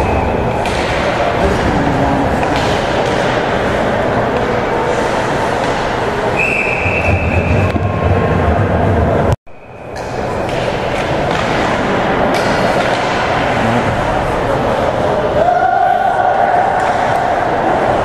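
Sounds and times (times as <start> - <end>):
crowd noise: 0.0 - 18.0.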